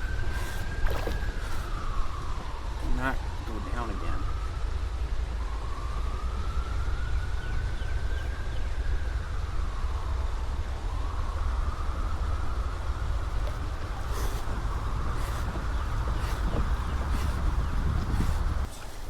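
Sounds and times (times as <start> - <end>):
low rumble: 0.0 - 18.7
siren wailing: 0.0 - 18.7.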